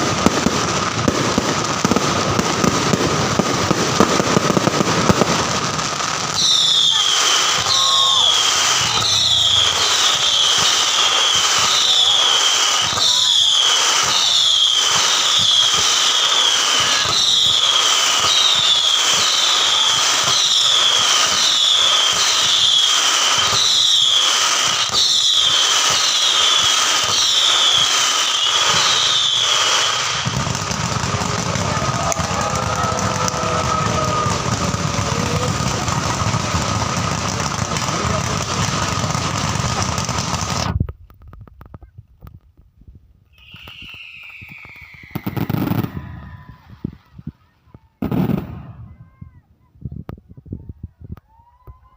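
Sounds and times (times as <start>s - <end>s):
fireworks high falling whistles: 0.0s - 40.8s, 43.3s - 49.2s
fireworks crackling pops: 0.0s - 51.9s.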